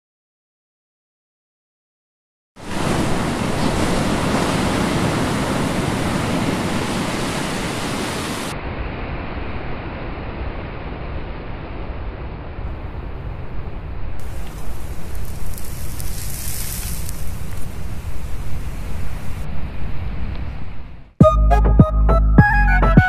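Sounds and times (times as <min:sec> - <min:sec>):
steady rushing noise: 0:02.6 - 0:21.2.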